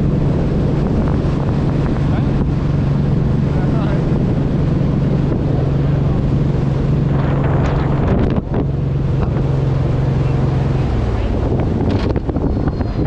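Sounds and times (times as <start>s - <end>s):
motorcycle engine riding: 0.0s - 13.0s
wind rush on microphone: 0.0s - 13.0s.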